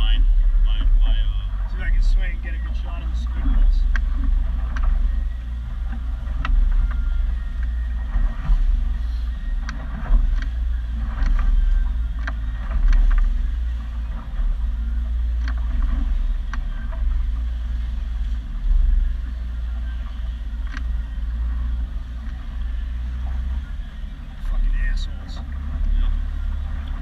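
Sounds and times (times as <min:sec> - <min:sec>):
boat engine rumbling: 0:00.0 - 0:27.0
wind: 0:00.0 - 0:27.0.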